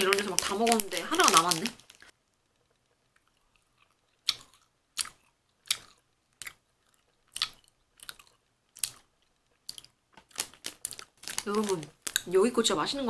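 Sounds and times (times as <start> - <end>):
person chewing crunchy food: 0.0 - 12.3.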